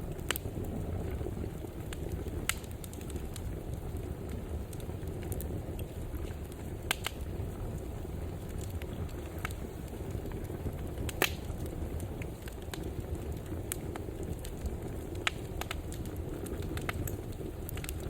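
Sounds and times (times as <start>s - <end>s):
sharp pops from fire: 0.0s - 18.0s
wood fire crackling: 0.0s - 18.0s.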